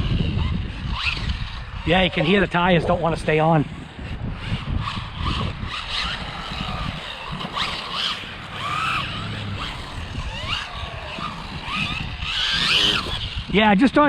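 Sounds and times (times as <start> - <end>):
electric motor whining: 0.0 - 13.6
rc car rumbling on ground: 0.0 - 14.0.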